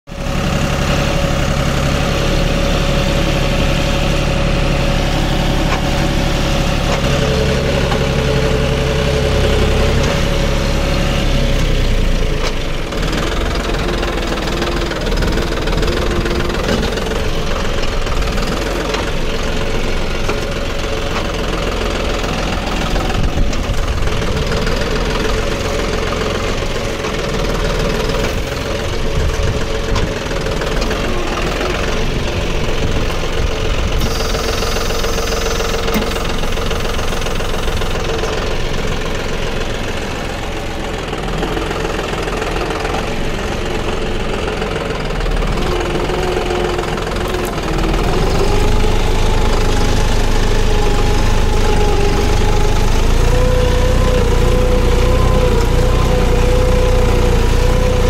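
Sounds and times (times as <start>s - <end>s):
tractor diesel engine running: 0.1s - 58.0s.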